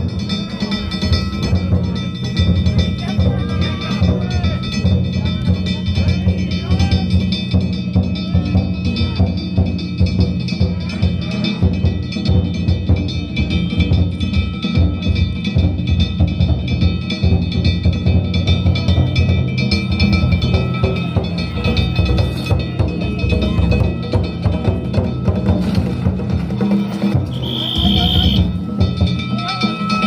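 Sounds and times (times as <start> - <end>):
gongs clanging: 0.0 - 30.0
taiko drums: 0.0 - 30.0.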